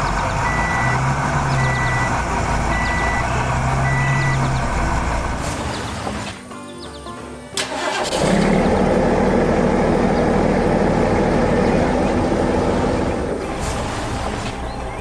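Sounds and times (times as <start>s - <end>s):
heavy machinery engine rumble: 0.0s - 6.5s, 7.6s - 15.0s.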